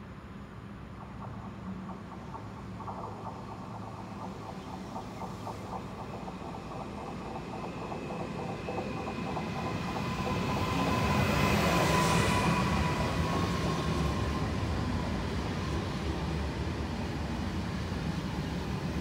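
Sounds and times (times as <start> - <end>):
high whine of train: 0.0 - 19.0
train wheels rumbling on track: 0.0 - 19.0.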